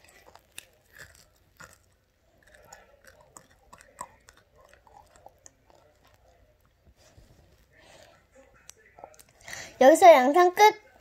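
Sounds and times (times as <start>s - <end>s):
child chewing food: 0.0s - 9.7s.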